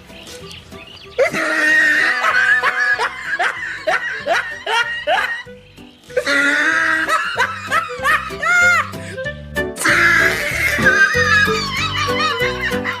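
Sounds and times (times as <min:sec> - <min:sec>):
background music with steady beat: 0:00.0 - 0:13.0
person laughing: 0:01.2 - 0:05.6, 0:06.2 - 0:13.0.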